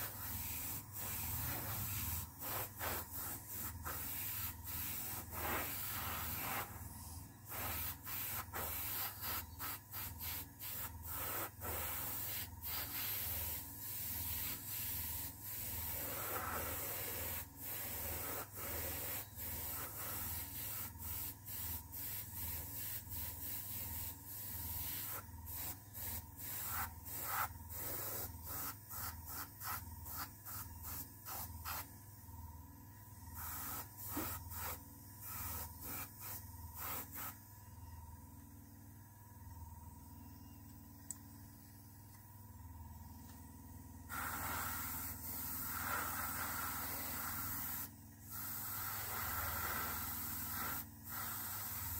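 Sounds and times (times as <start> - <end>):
airbrush spraying air bursts: 0.0 - 31.9, 33.4 - 37.4, 44.1 - 51.9.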